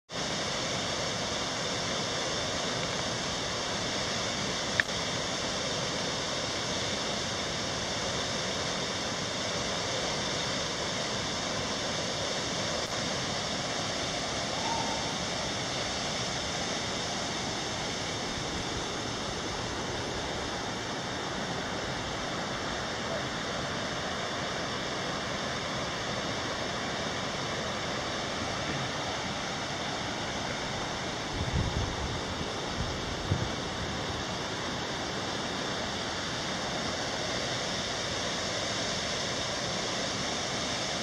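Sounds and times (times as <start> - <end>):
waterfall rushing: 0.1 - 41.0.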